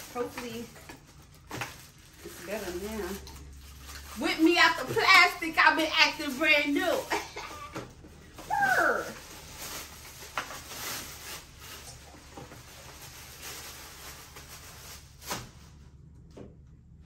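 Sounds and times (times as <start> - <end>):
plastic wrapping crinkling: 0.0 - 15.9.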